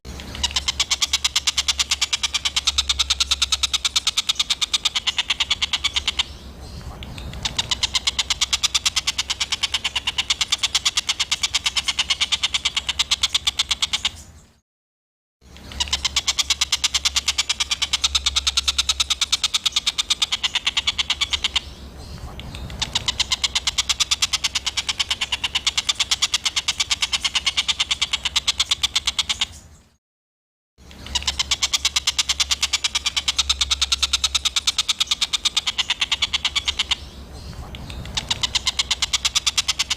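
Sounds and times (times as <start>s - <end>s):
songbird rattling call: 0.1s - 14.6s, 15.4s - 30.0s, 30.8s - 39.9s.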